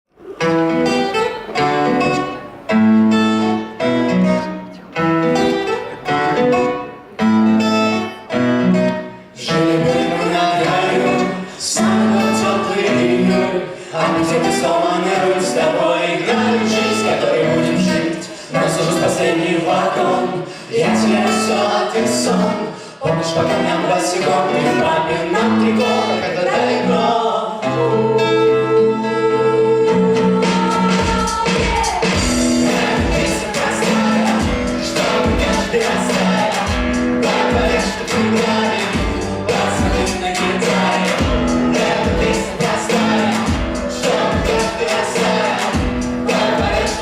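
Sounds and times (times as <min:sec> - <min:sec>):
pop song instrumental: 0:00.1 - 0:47.0.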